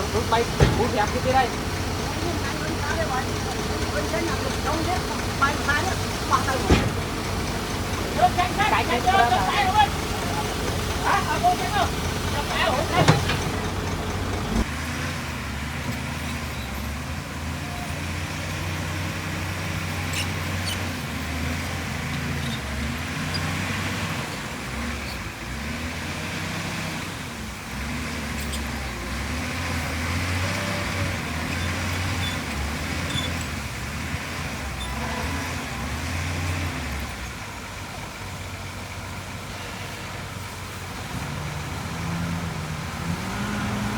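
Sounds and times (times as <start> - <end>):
heavy machinery diesel engine: 0.0 - 43.9.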